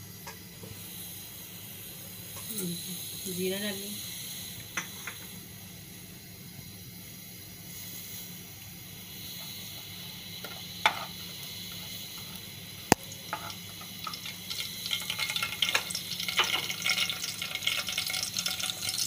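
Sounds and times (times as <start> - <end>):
oil hissing: 0.0 - 19.0
seeds crackling and sizzling in oil: 0.0 - 19.0.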